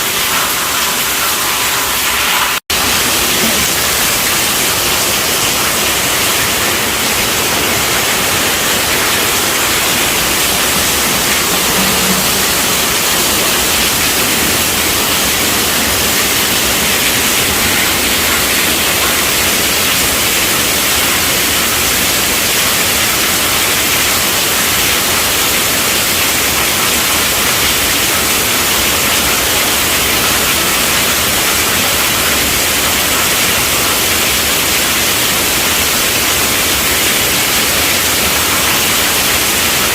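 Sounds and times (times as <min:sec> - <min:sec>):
heavy rain on a tent roof: 0:00.0 - 0:39.9.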